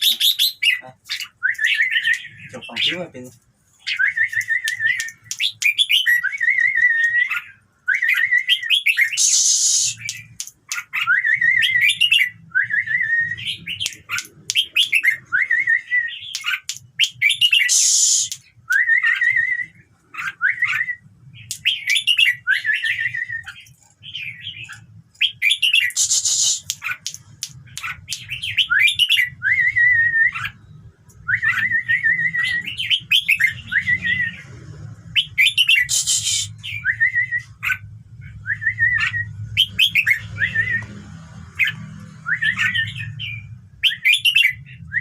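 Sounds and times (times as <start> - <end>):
bird singing warbling phrases: 0.0 - 45.0.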